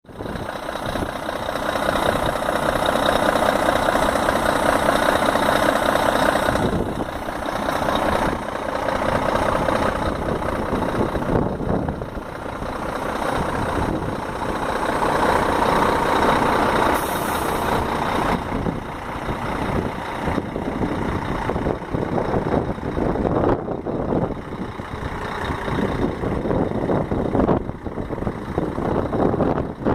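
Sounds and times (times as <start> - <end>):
truck diesel engine running: 0.0 - 29.9.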